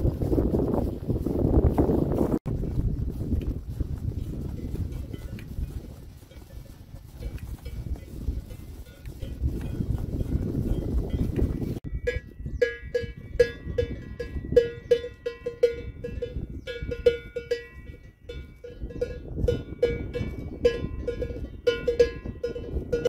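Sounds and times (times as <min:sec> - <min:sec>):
wind buffeting microphone: 0:00.0 - 0:23.0
cowbells clanking: 0:04.1 - 0:23.0.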